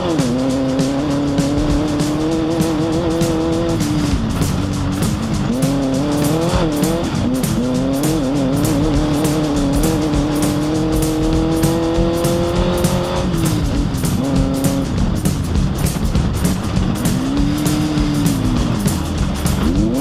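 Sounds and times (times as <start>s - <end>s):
music with a steady beat: 0.0s - 20.0s
race vehicle engine running hard: 0.0s - 20.0s.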